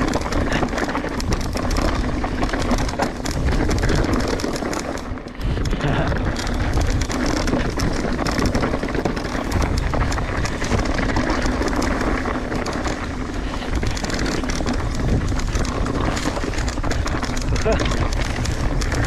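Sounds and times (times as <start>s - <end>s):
bike rattling over bumps: 0.0s - 19.0s
bike tyres rumbling on dirt: 0.0s - 19.0s
wind buffeting microphone: 0.0s - 19.0s.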